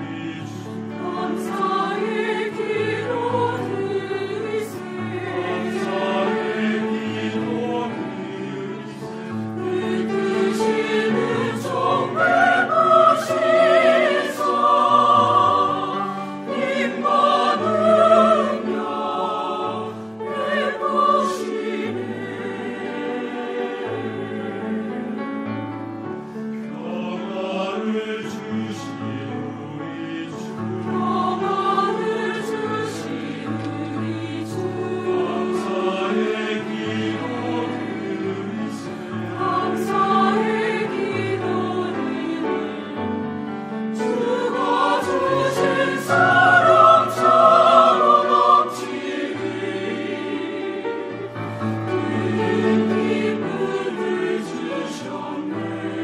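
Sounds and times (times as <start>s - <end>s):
mixed church choir singing: 0.0s - 56.0s.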